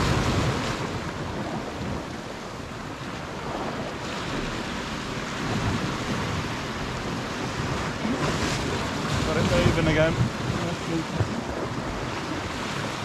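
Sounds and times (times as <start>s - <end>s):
sea washing against rocks: 0.0s - 13.0s
wind buffeting microphone: 0.0s - 13.0s.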